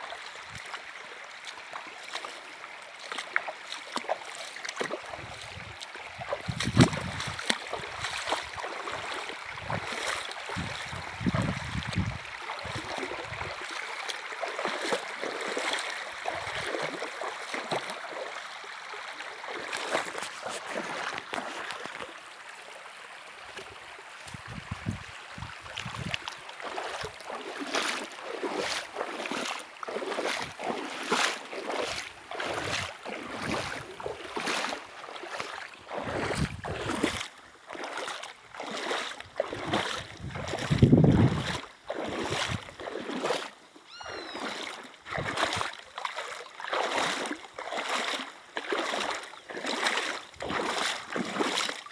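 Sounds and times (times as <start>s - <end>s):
river water running and splashing: 0.0s - 51.9s
water lapping and sloshing: 0.0s - 51.9s.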